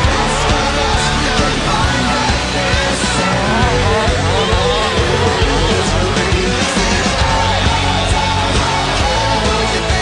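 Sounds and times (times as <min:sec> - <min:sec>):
rock music with guitar and singing: 0:00.0 - 0:10.0.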